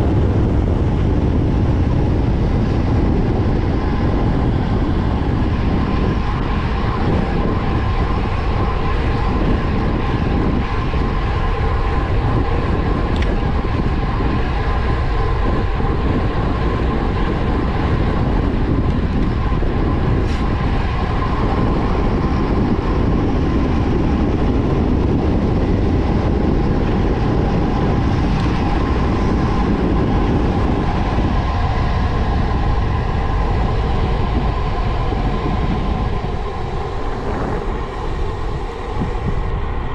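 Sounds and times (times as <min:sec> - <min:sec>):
bike tyres rolling on asphalt: 0:00.0 - 0:39.9
wind rushing over microphone: 0:00.0 - 0:39.9.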